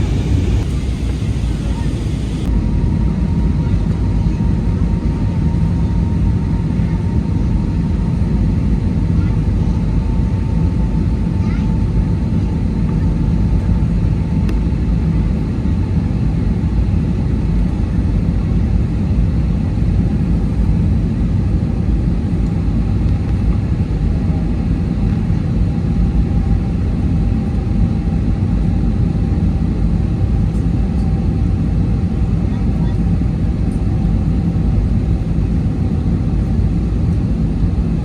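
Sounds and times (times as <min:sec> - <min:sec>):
airliner engine drone: 0:00.0 - 0:38.0.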